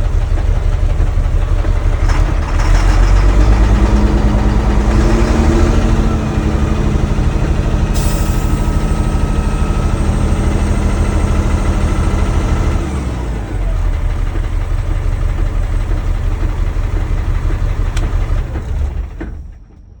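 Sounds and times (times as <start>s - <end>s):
diesel engine idling unevenly: 0.0s - 19.7s.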